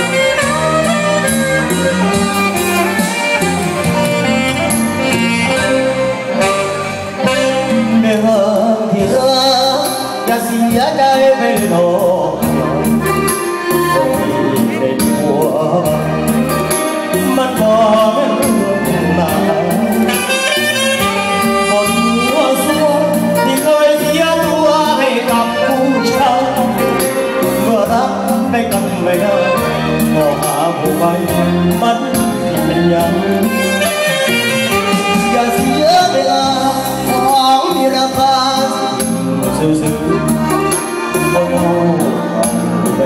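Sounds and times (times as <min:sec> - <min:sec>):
live band music over loudspeakers: 0:00.0 - 0:43.0
lead vocal singing: 0:01.9 - 0:43.0.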